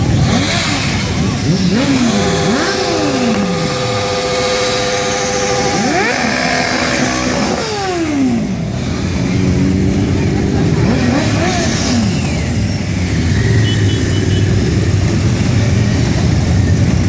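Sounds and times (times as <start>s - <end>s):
motorcycle engines passing by: 0.0s - 17.0s.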